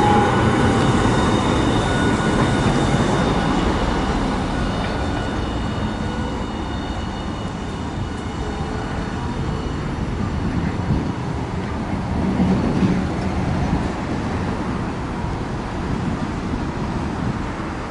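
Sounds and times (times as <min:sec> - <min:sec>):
tram rumbling: 0:00.0 - 0:17.9.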